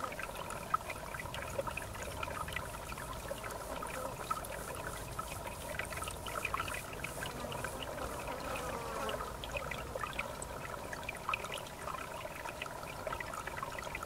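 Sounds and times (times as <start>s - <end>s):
river water trickling and gurgling: 0.0s - 14.0s.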